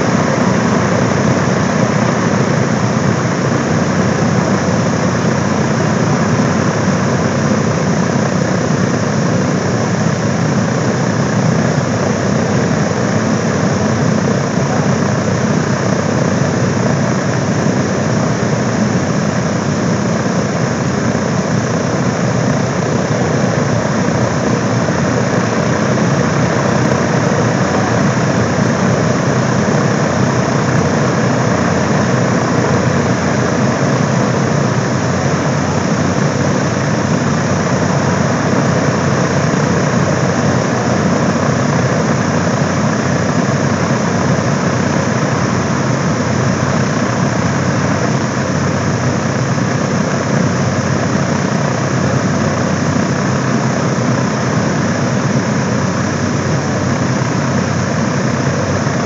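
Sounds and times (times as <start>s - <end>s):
radial aircraft engines running: 0.0s - 59.0s.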